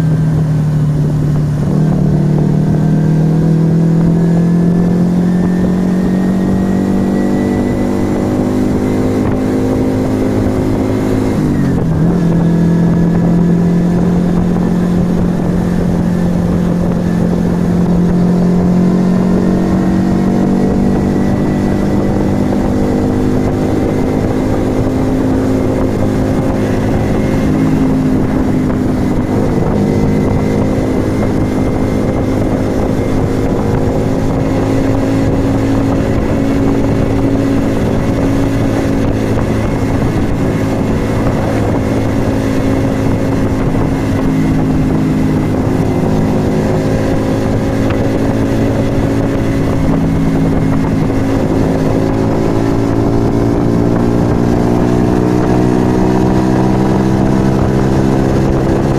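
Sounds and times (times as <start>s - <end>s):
motorcycle engine riding: 0.0s - 58.9s.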